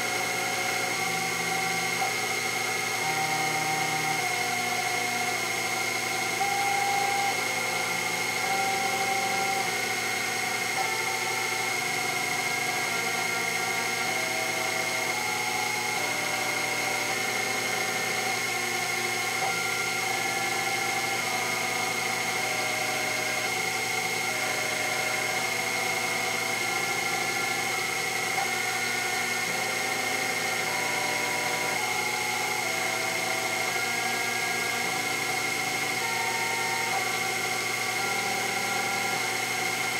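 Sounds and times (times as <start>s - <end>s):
milling machine high whine: 0.0s - 39.9s
stepper motors humming: 0.0s - 39.9s.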